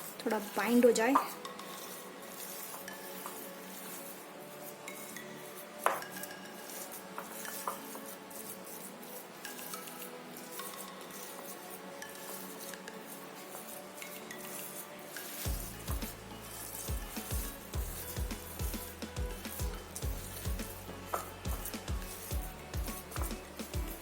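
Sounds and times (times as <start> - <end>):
utensil scraping a mixing bowl: 0.0 - 24.0.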